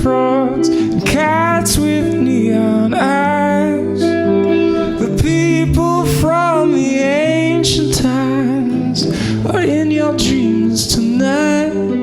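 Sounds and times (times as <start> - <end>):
person singing long wavering notes: 0.0 - 12.0
sustained chords: 0.6 - 12.0.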